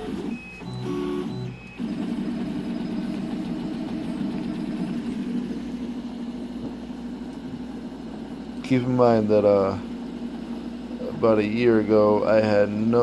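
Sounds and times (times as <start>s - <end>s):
three d printer motors humming: 0.0s - 13.0s.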